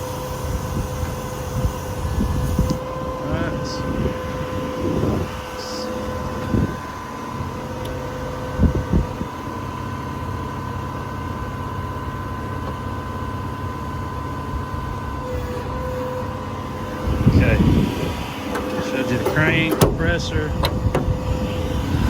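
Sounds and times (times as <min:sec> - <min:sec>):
diesel truck engine rumble: 0:00.0 - 0:22.0
hydraulic pump whine: 0:00.0 - 0:22.0.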